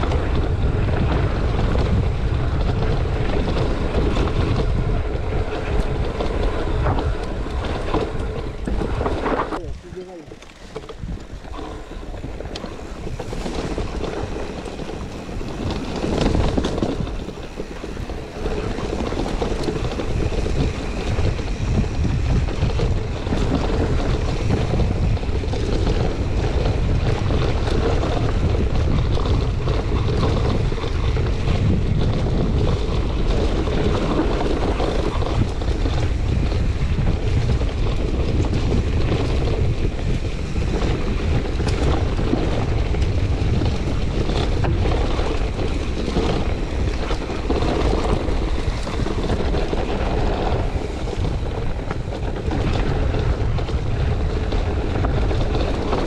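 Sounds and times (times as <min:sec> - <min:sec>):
bike knocks and rattles: 0:00.0 - 0:56.0
tyres rolling over dirt trail: 0:00.0 - 0:56.0
wind buffeting microphone: 0:00.0 - 0:56.0.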